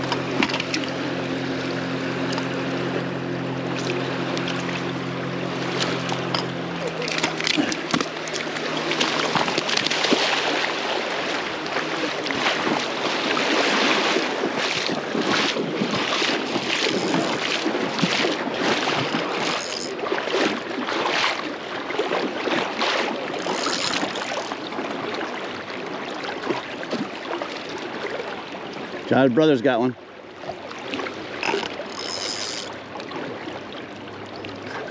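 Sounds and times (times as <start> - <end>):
river current rushing and splashing: 0.0 - 34.9.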